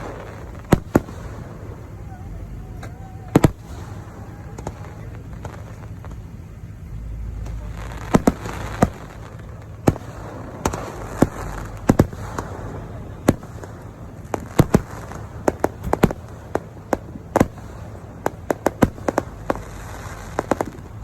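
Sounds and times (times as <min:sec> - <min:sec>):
fireworks bangs: 0:00.0 - 0:21.0
low rumble and crackle: 0:00.0 - 0:21.0.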